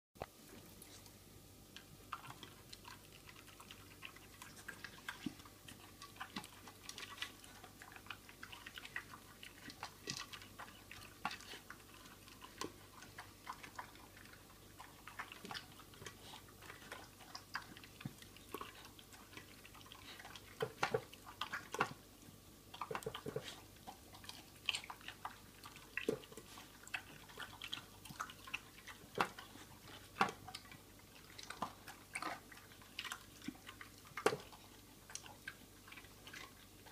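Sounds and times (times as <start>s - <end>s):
dog chewing and crunching: 0.5s - 36.9s.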